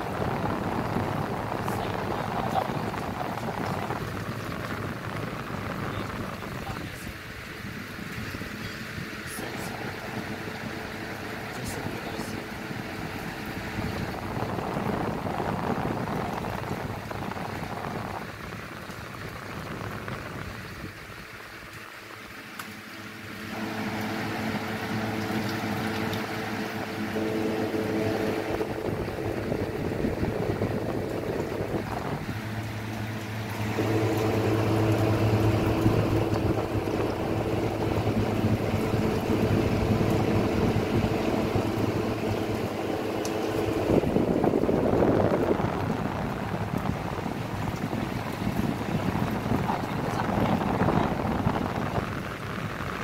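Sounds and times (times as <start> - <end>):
steady hum: 0.0 - 21.3, 22.6 - 53.0
water sloshing and splashing: 0.0 - 53.0.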